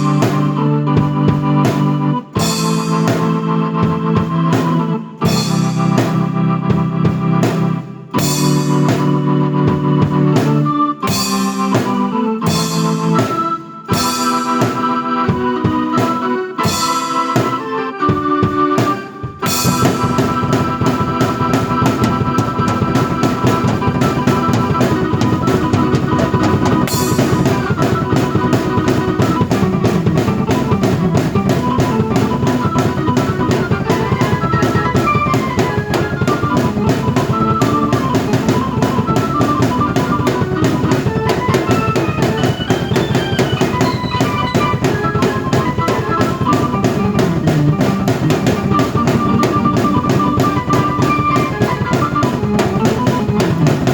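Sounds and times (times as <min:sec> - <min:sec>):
drums and cymbals: 0:00.0 - 0:53.9
organ-like keyboard chords: 0:00.0 - 0:53.9.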